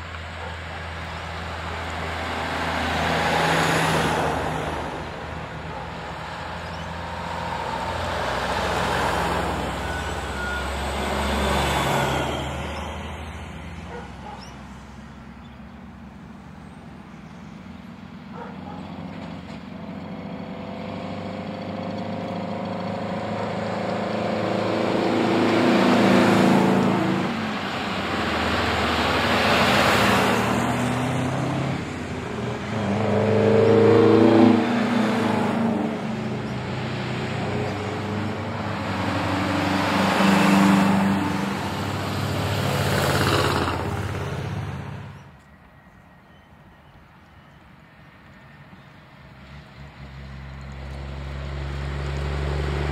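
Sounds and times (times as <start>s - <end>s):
diesel trucks driving past: 0.0s - 52.9s.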